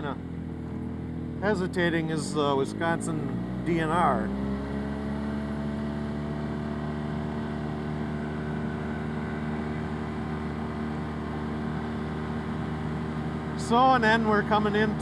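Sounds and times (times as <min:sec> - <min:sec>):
utility vehicle engine cruising: 0:00.0 - 0:15.0.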